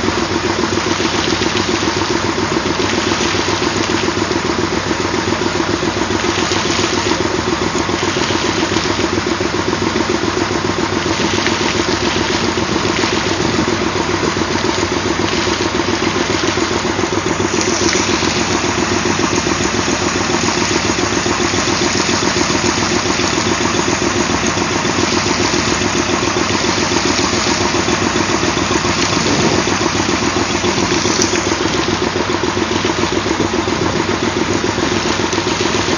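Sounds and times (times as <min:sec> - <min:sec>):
air compressor pulsing: 0:00.0 - 0:35.9.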